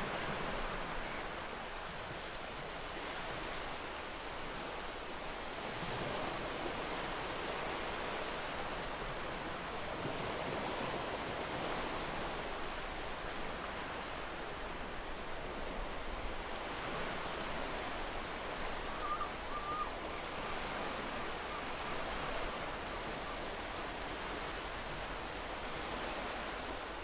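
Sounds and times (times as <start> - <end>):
waves breaking on beach: 0.0 - 27.0.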